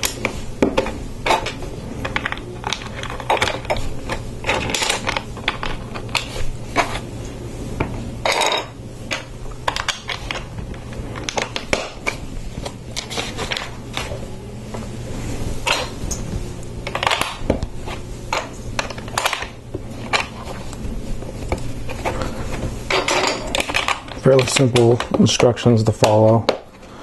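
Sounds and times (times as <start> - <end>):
scraping rustles: 0.0 - 8.6, 9.2 - 25.4.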